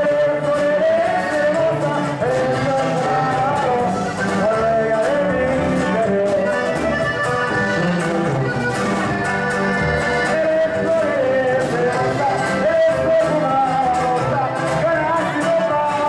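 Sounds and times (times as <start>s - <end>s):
accordion melody: 0.0s - 16.0s
guitar: 0.0s - 16.0s
tuba bass: 0.0s - 16.0s.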